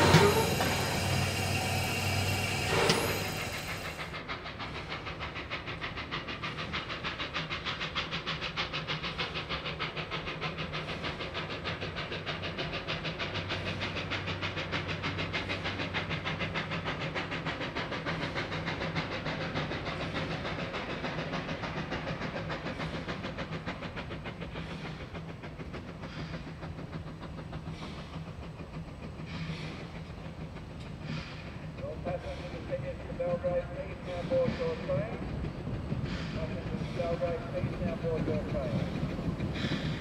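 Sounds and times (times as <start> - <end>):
steam locomotive chuffing: 0.0 - 40.0.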